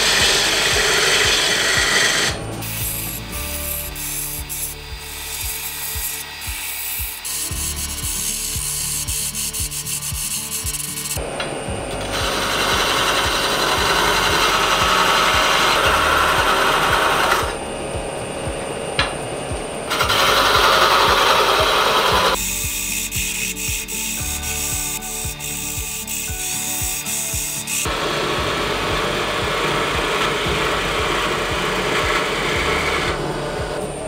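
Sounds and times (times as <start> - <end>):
lathe tool scraping wood: 0.0 - 11.3, 11.9 - 17.6, 19.9 - 34.0.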